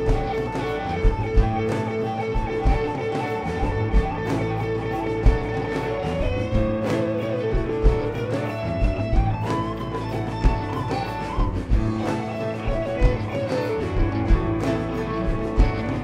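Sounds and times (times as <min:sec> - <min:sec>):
bending guitar lead note: 0:00.0 - 0:16.0
rock band playing: 0:00.0 - 0:16.0.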